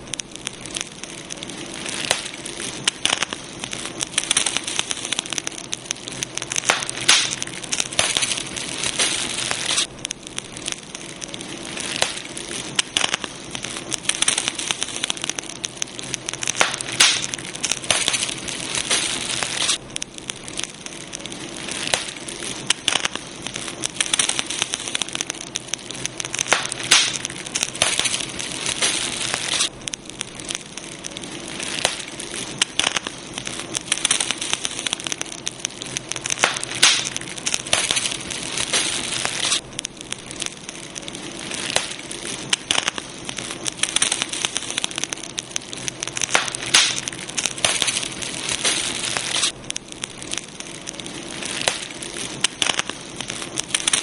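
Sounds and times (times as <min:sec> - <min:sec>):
campfire crackling and hissing: 0:00.0 - 0:54.0.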